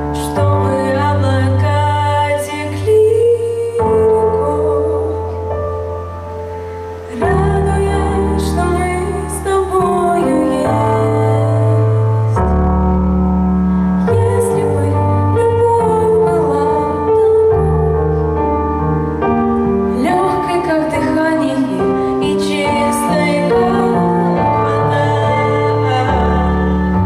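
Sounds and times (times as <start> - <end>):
girl singing into microphone: 0.0 - 5.9, 7.0 - 12.6, 14.0 - 18.5, 19.9 - 27.0
keyboard chords and bass backing track: 0.0 - 27.0.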